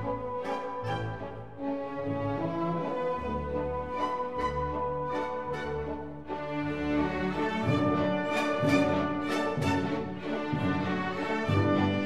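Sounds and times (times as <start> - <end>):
orchestral music: 0.0 - 12.0.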